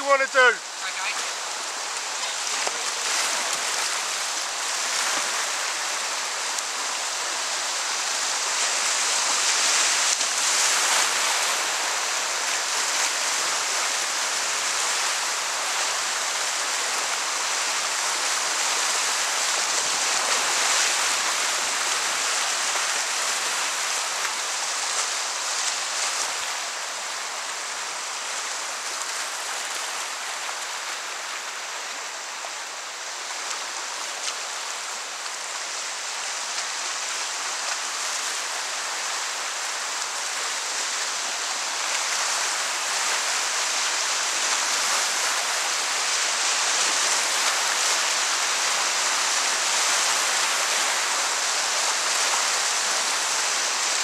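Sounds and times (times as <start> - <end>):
river rushing over rapids: 0.0 - 54.0.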